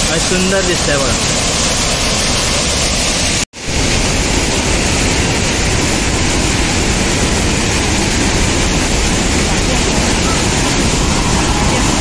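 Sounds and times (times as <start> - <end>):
large waterfall rushing: 0.0 - 12.0.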